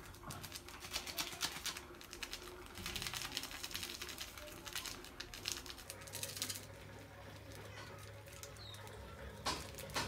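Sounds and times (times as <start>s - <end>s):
foil sachet crinkling: 0.0s - 10.0s.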